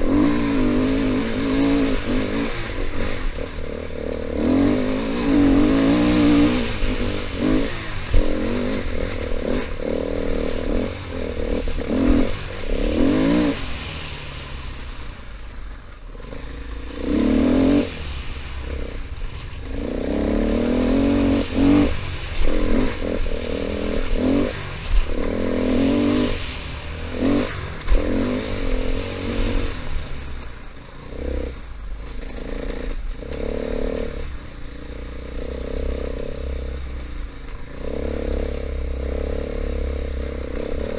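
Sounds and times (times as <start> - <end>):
dirt bike engine revving: 0.0 - 37.0, 37.6 - 40.9.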